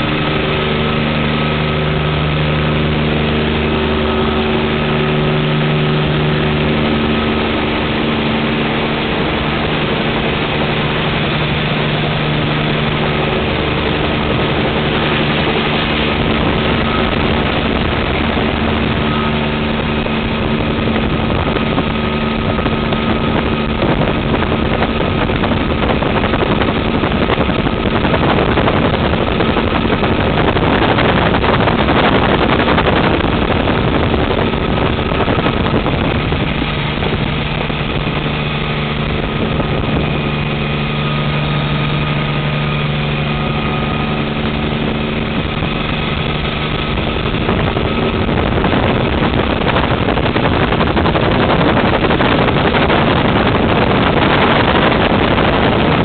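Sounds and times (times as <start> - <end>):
helicopter engine and rotor: 0.0 - 56.0
low hum: 0.0 - 56.0.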